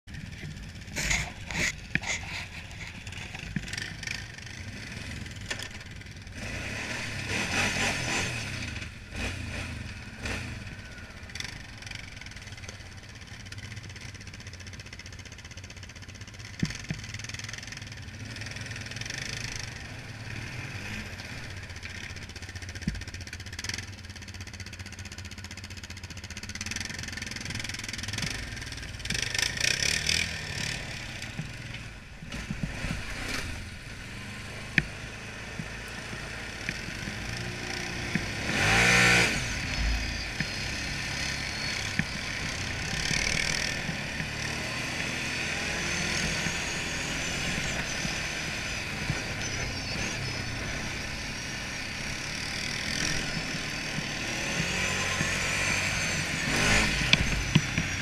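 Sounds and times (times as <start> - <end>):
atv engine running at low revs: 0.1 - 58.0.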